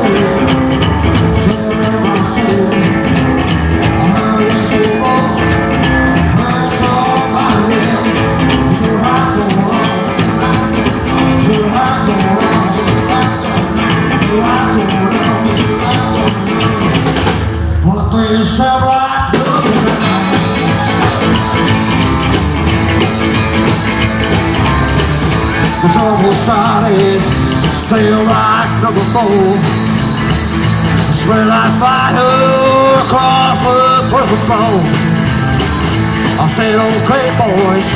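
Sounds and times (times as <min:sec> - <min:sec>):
upright double bass plucked: 0:00.0 - 0:18.6, 0:19.4 - 0:37.9
drums: 0:00.0 - 0:37.9
guitar: 0:00.0 - 0:37.9
person singing: 0:00.0 - 0:37.9.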